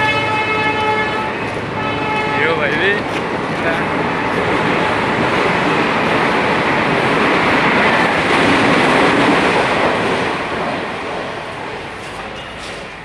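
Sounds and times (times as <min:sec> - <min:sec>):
train passing on rails: 0:00.0 - 0:13.0.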